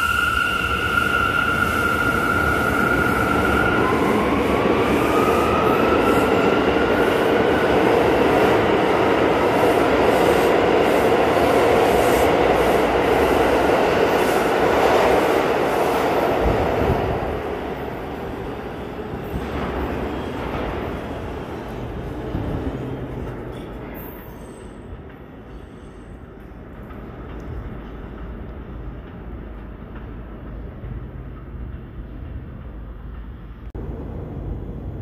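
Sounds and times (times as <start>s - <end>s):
subway train rumbling: 0.0s - 35.0s.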